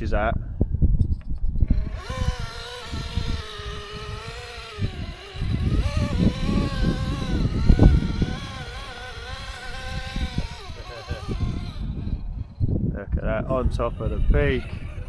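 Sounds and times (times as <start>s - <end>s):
electric motor whining: 1.6s - 15.0s.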